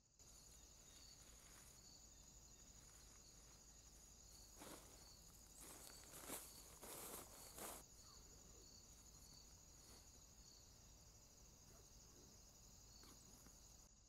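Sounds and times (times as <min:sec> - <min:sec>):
soft insect chirp: 0:00.0 - 0:14.0
crickets trilling: 0:00.1 - 0:14.0.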